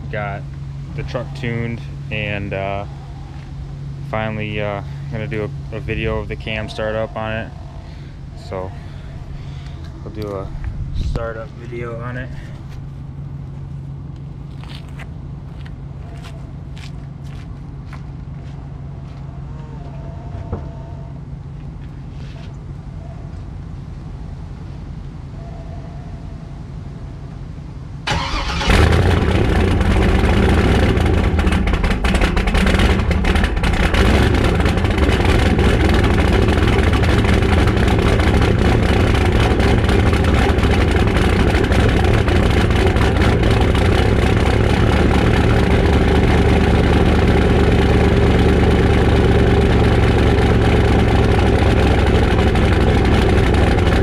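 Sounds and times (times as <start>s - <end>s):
truck engine starting and idling: 0.0s - 18.3s, 27.5s - 54.0s.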